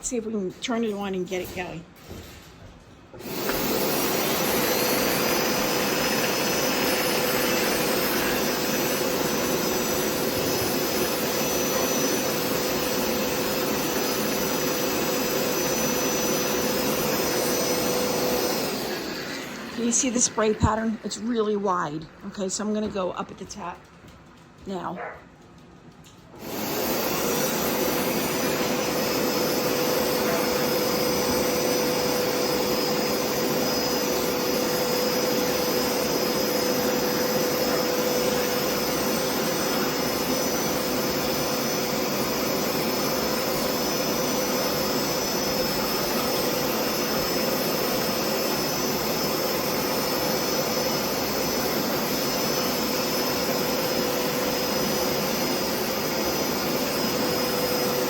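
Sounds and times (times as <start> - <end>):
carpet cleaner motor and suction: 3.1 - 23.7, 26.3 - 58.0.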